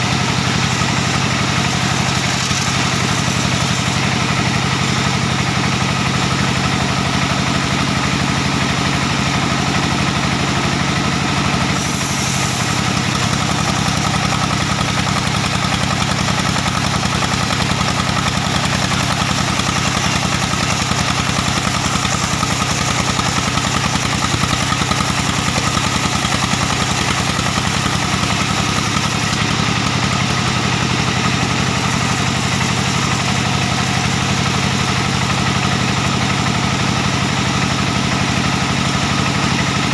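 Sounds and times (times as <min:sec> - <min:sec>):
band saw cutting log: 0:00.0 - 0:39.9
diesel engine running: 0:00.0 - 0:39.9.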